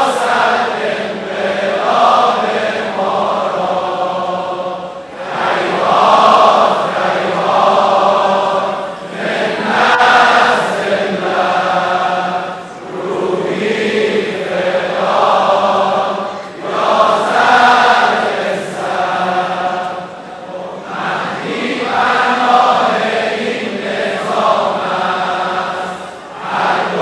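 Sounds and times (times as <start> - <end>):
crowd of men singing: 0.0 - 27.0.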